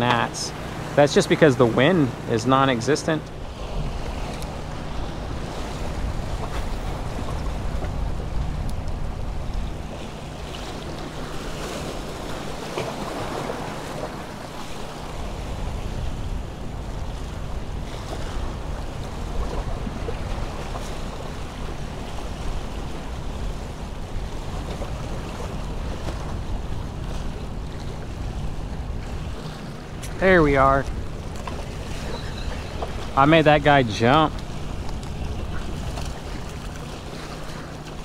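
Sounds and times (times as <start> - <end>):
surf washing against rocks: 0.0 - 38.0.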